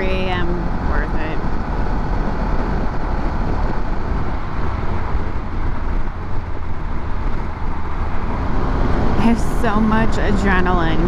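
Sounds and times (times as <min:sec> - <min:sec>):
low engine drone: 0:00.0 - 0:11.0
motorcycle road noise: 0:00.0 - 0:11.0
wind noise: 0:00.0 - 0:11.0.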